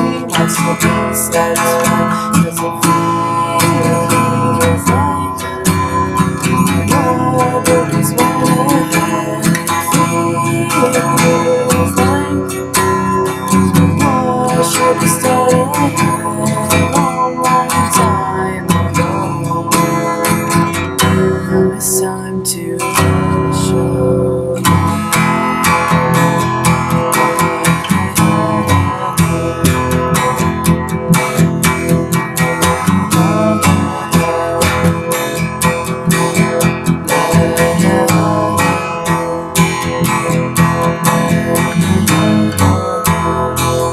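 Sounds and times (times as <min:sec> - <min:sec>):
acoustic guitar strumming: 0:00.0 - 0:43.9.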